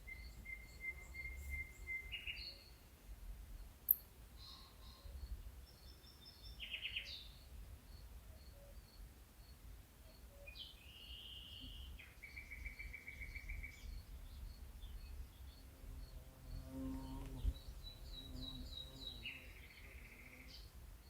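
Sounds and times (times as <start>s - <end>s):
faint insect chirping: 0.0s - 21.0s.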